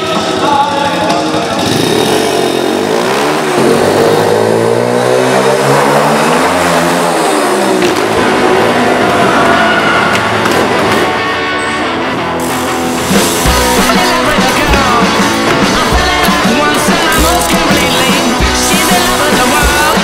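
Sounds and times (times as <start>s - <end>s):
pit bike engine revving: 0.3s - 9.3s, 12.3s - 20.0s.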